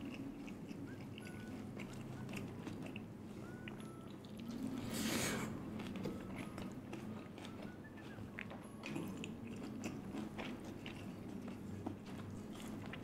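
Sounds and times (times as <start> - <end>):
chewing and biting food: 0.0 - 13.0.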